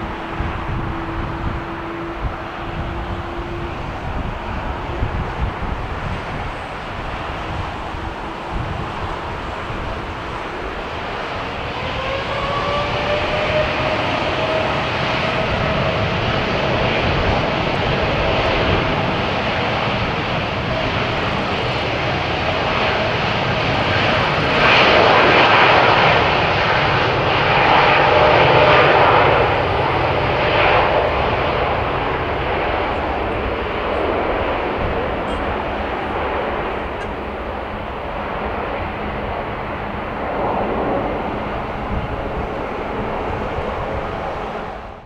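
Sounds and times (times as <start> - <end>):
jet engines whine and roar: 0.0 - 45.0.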